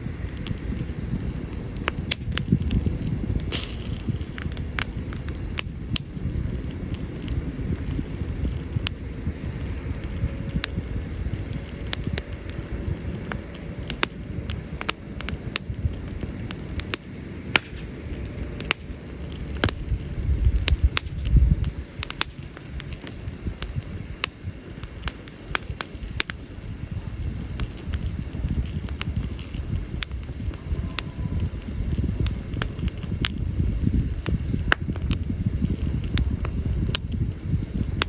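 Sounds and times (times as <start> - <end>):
campfire crackling and popping: 0.0 - 38.0
steady low rumble: 0.0 - 38.0.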